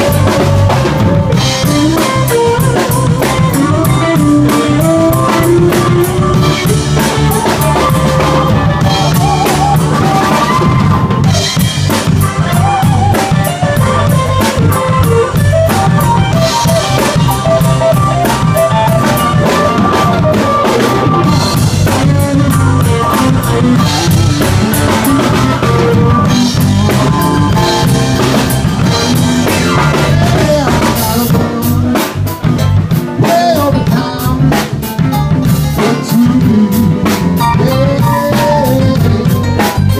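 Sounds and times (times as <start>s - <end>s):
blues band playing live: 0.0s - 39.9s
melodic lead line: 0.0s - 39.9s
snare and bass drum beat: 0.0s - 39.9s.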